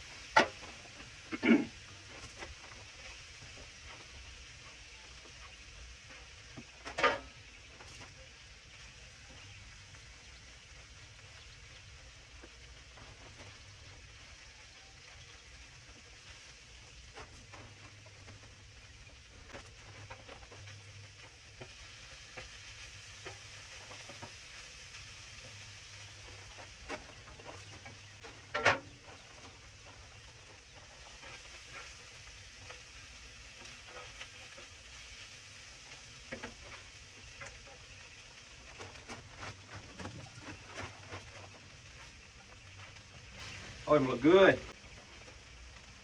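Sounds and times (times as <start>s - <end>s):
food sizzling as it fries: 0.0s - 46.0s.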